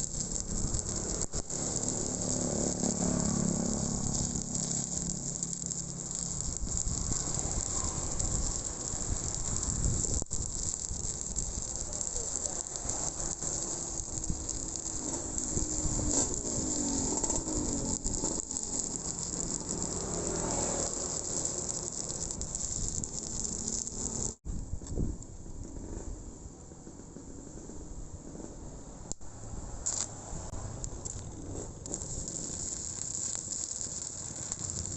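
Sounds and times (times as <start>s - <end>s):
welding arc crackling: 0.0s - 25.3s, 29.0s - 34.9s.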